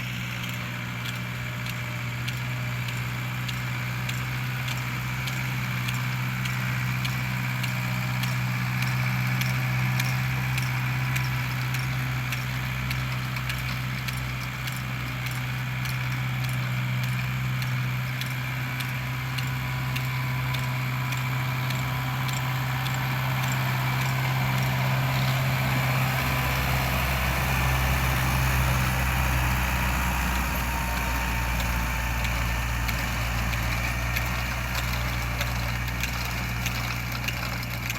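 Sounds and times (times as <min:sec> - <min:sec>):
tractor diesel engine running: 0:00.0 - 0:37.9
light metallic rattling ticks: 0:00.4 - 0:37.9.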